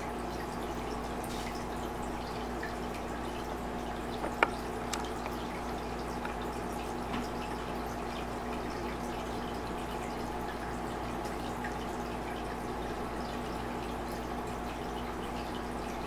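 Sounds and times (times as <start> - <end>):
water dripping and trickling: 0.0 - 16.0.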